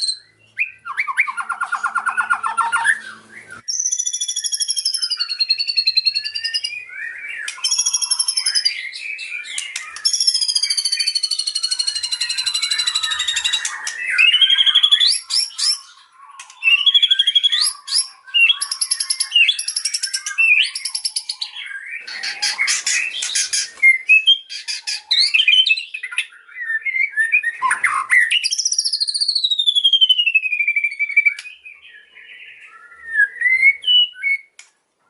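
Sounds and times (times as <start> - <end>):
songbird singing varied song: 0.0 - 34.8.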